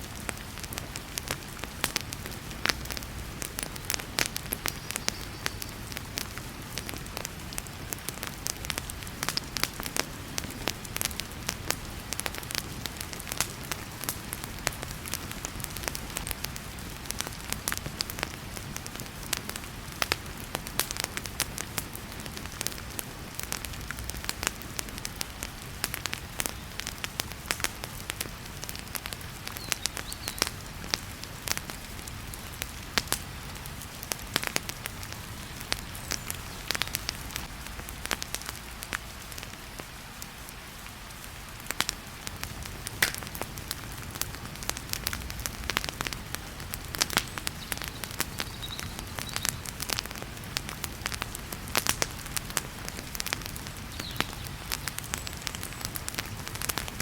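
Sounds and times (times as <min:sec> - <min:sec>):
heavy rain hiss: 0:00.0 - 0:57.0
wood fire crackling: 0:00.0 - 0:57.0.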